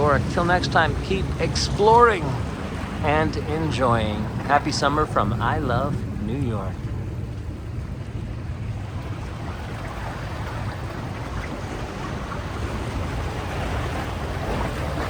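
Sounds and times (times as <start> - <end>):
surf washing onto beach: 0.0 - 15.0
wind rumbling on microphone: 0.0 - 15.0.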